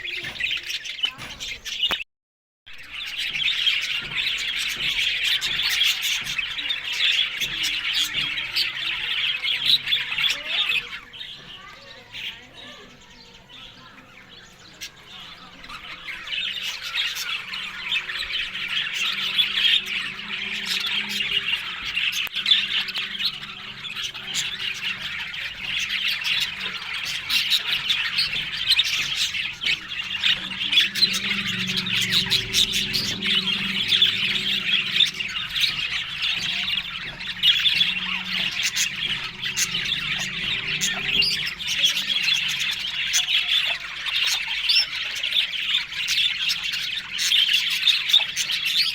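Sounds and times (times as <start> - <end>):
budgerigars chattering and squawking: 0.0 - 2.0, 2.8 - 48.9.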